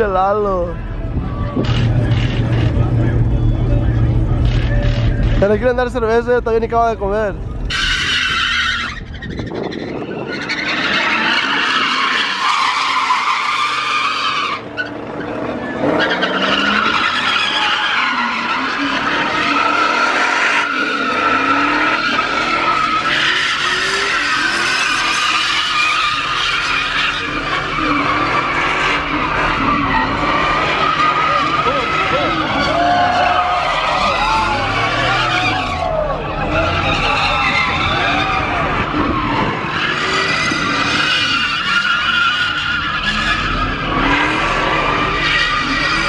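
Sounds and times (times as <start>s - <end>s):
tires squealing: 0.0s - 46.0s
truck engine revving: 0.0s - 46.0s.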